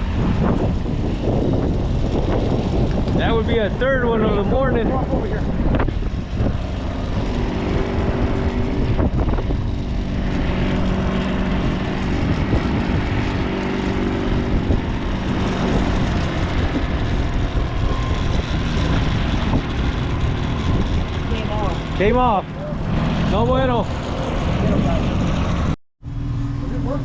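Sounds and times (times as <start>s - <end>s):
boat engine running: 0.0s - 27.0s
wind rumble on microphone: 0.0s - 27.0s.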